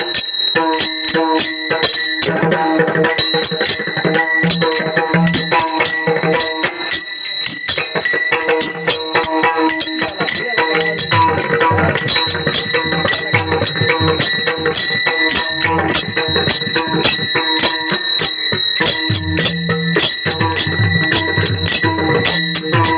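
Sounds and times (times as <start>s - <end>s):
hand cymbals clashing: 0.0s - 22.9s
drum strokes: 1.1s - 22.9s.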